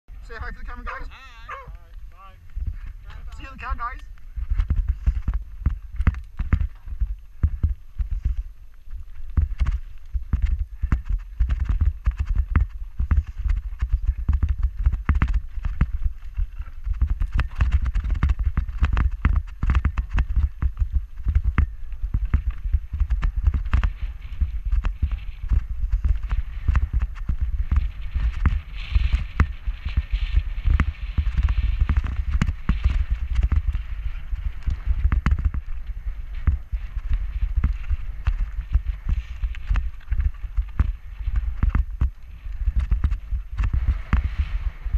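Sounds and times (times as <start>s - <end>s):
wind rumble on microphone: 0.0s - 44.9s
bike clattering and rattling: 2.5s - 44.9s.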